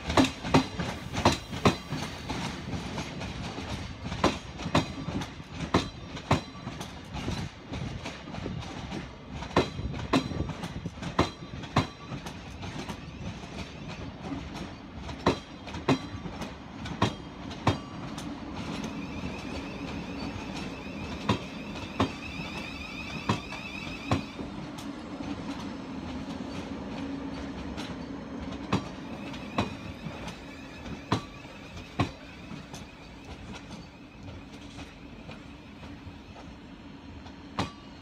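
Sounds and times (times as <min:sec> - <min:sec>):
train wheels clacking: 0:00.0 - 0:38.0.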